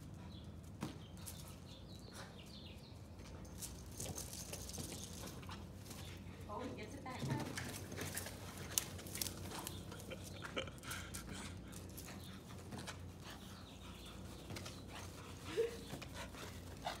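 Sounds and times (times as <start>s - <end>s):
small dogs panting: 0.0s - 17.0s.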